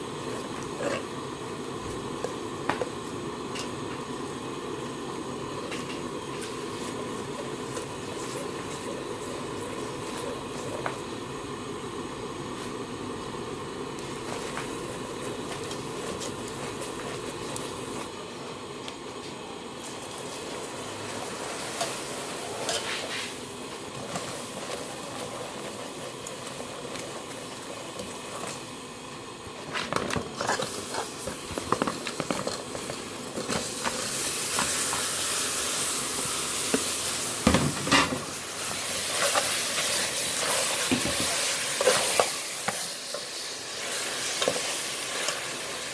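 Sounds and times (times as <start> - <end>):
loud sizzle: 0.0 - 45.9.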